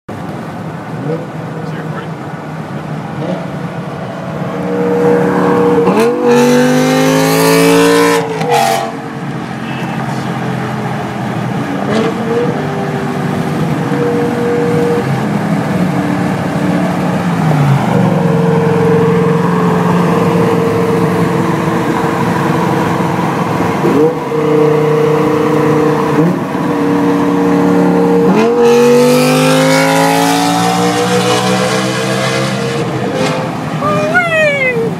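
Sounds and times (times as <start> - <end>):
car exhaust revving: 3.1 - 33.8.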